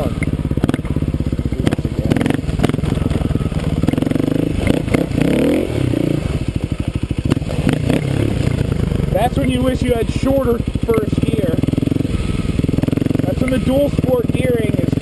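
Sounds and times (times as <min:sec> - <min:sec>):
dirt bike engine chugging: 0:00.0 - 0:15.0.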